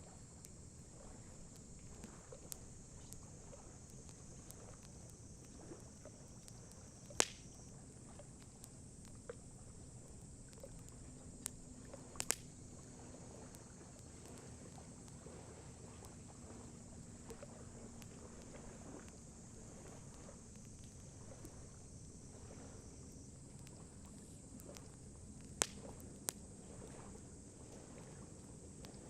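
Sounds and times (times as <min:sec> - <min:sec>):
campfire crackling and popping: 0:00.1 - 0:22.2, 0:22.8 - 0:26.8, 0:28.7 - 0:29.0.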